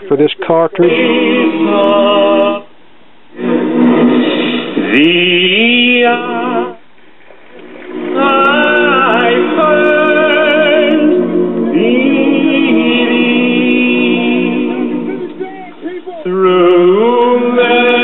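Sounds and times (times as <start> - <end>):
vocal music on record player: 0.0 - 18.0.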